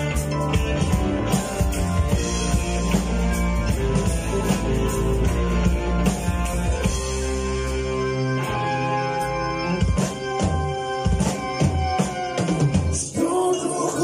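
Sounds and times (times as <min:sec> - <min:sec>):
drum kit: 0:00.0 - 0:14.0
rock band playing: 0:00.0 - 0:14.0.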